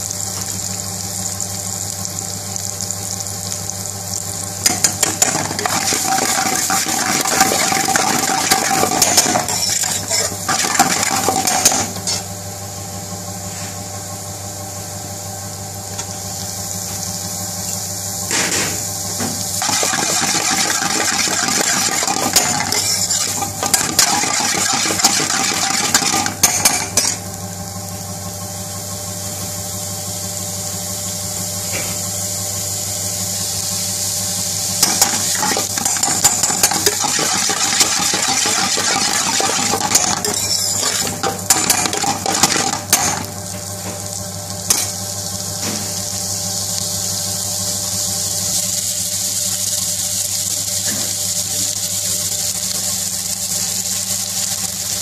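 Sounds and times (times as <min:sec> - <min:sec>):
chicken and onions sizzling in wok: 0:00.0 - 0:55.0.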